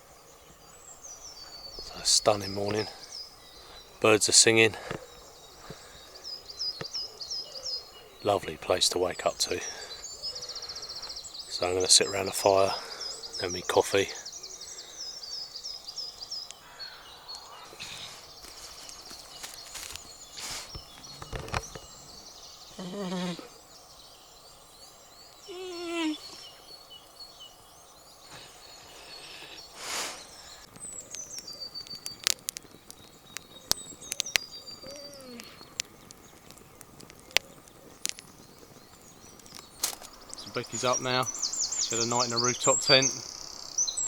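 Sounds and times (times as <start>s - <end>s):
birds singing: 0.0s - 44.0s
campfire crackling: 0.0s - 44.0s.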